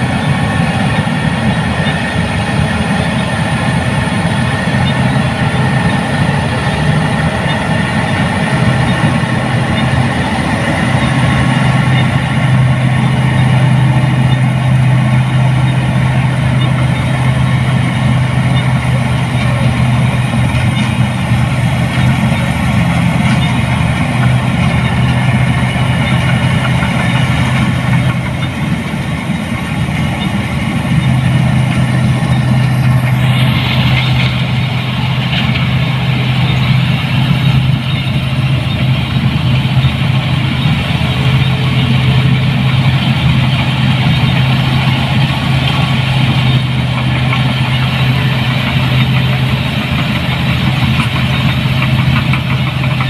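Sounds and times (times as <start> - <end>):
combine harvester engine droning: 0.0 - 53.0
machinery noise: 0.0 - 53.0.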